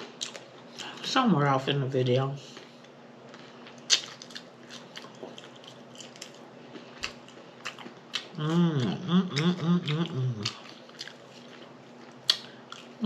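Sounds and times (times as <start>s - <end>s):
person chewing food: 0.0s - 1.0s, 2.5s - 13.0s.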